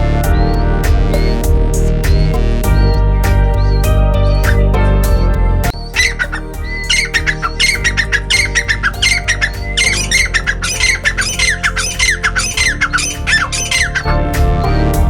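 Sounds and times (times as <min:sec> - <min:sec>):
background music: 0:00.0 - 0:15.0
caged birds squawking: 0:00.0 - 0:15.0.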